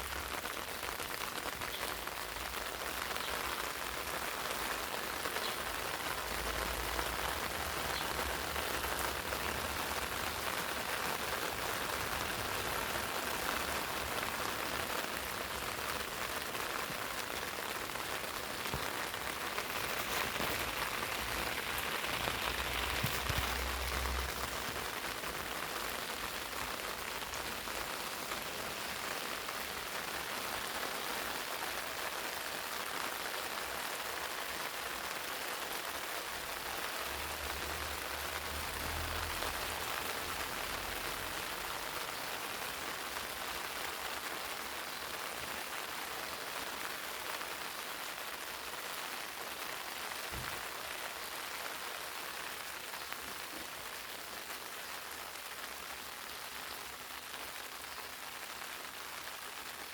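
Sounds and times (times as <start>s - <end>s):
rain pattering on leaves: 0.0s - 59.9s.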